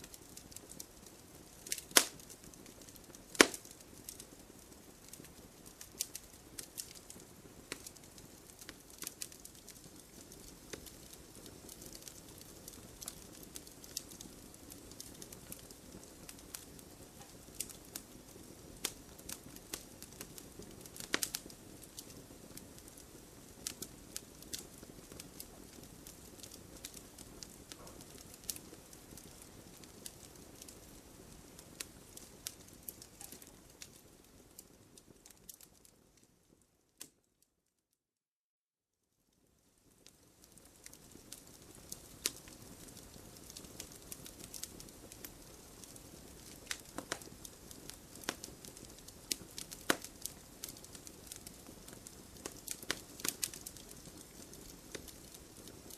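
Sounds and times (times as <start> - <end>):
wood fire crackling: 0.0 - 37.3, 39.3 - 55.9.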